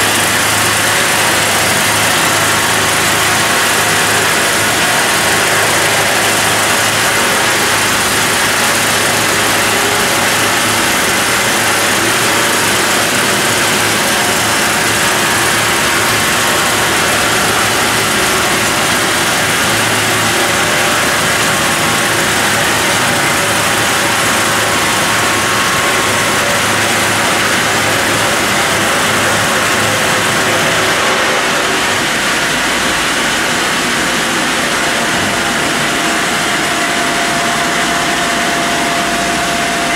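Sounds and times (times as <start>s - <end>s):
sawmill machine hum: 0.0s - 39.9s.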